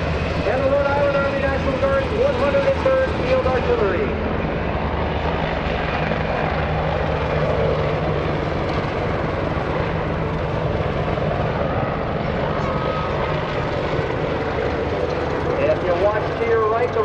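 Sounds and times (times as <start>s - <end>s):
helicopter flying by: 0.0s - 17.0s.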